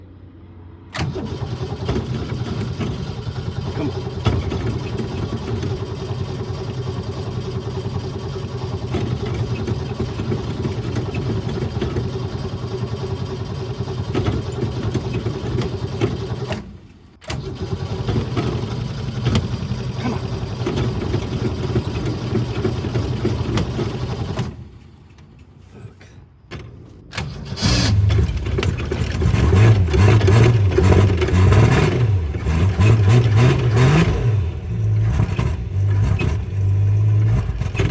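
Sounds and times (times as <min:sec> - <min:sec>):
engine running unevenly: 0:00.9 - 0:24.7, 0:27.6 - 0:37.9
engine turning over: 0:00.9 - 0:24.9, 0:27.1 - 0:37.9.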